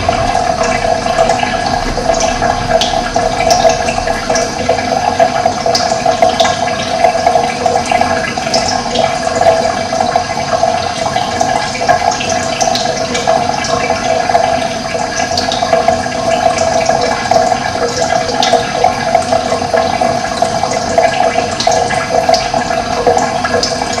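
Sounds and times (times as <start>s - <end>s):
running water flowing: 0.0s - 24.0s.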